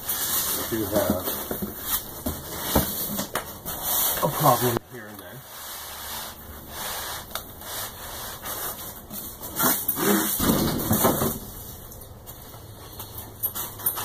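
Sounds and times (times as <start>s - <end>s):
foam packaging rubbing and scraping: 0.0s - 11.2s.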